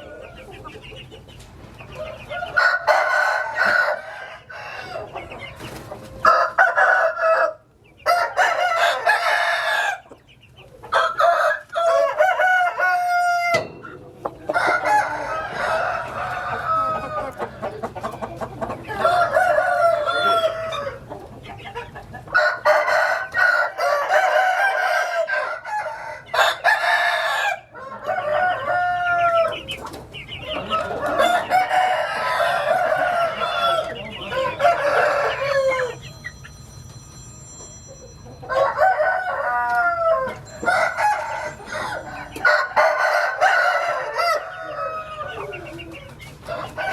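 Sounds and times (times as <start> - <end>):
roosters crowing: 0.0 - 1.0, 1.7 - 46.9
chickens clucking: 0.0 - 46.9.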